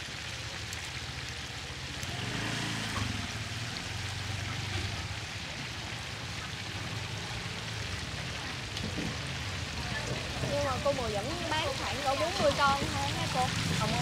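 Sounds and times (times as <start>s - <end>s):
oil bubbling and sizzling: 0.0s - 14.0s.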